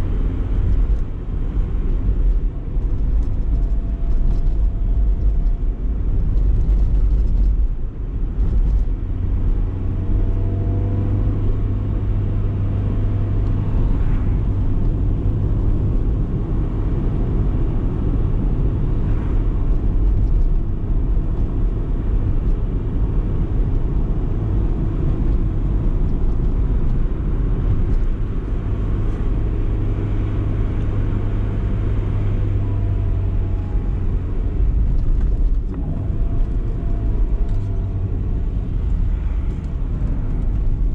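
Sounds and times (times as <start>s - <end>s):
car engine driving: 0.0s - 40.9s
road noise: 0.0s - 40.9s.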